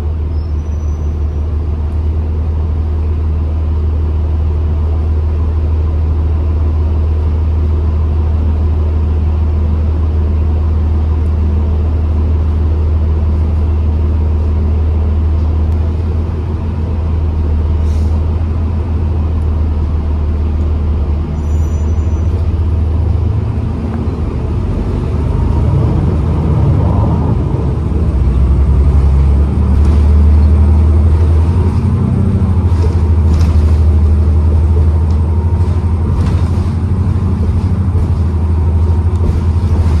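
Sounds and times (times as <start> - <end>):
bus engine rumbling: 0.0 - 40.0.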